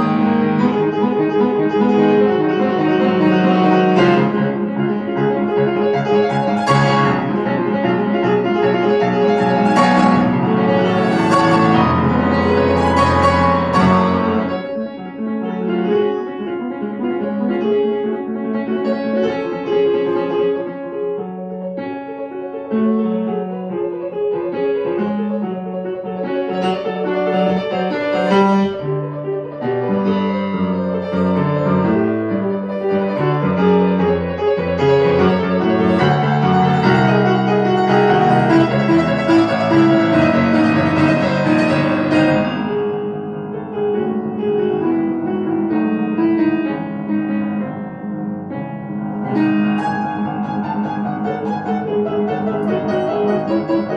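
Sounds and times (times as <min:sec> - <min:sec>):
grand piano classical passage: 0:00.0 - 0:53.9.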